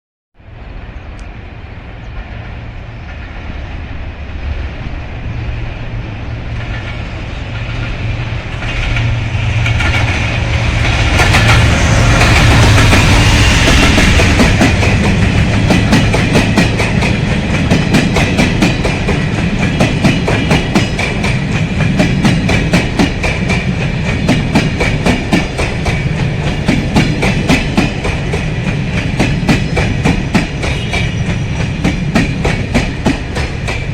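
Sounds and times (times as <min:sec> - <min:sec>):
train wheels clacking on rails: 0:06.4 - 0:33.9.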